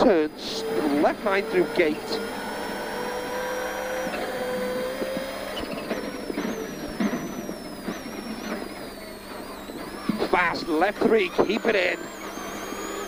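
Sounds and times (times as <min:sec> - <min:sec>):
rally car engine and gearbox whine: 0:00.0 - 0:13.0.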